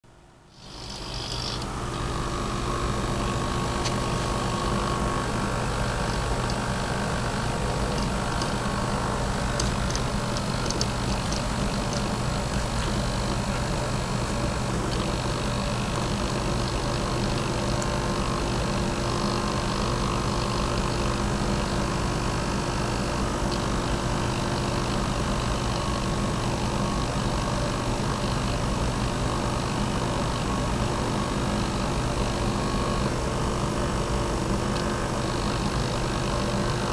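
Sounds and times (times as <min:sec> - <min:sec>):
servo motors humming and whining: 0:00.5 - 0:36.9.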